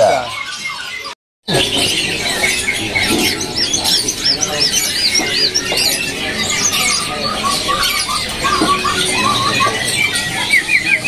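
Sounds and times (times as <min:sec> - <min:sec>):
small cage birds chirping: 0:00.0 - 0:11.0.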